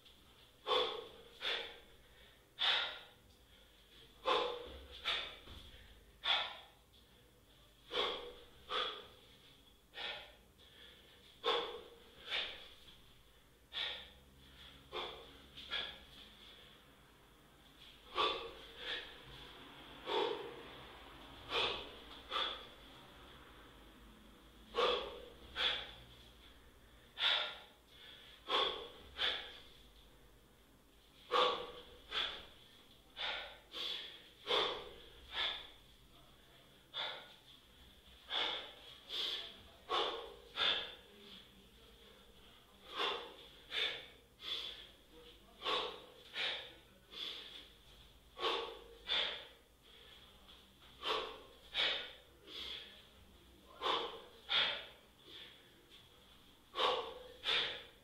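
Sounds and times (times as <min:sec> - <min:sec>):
person breathing hard: 0:00.0 - 0:58.0.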